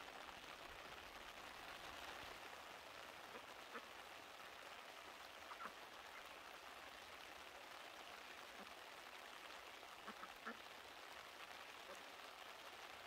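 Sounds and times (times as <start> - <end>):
light rain hiss: 0.0 - 13.0.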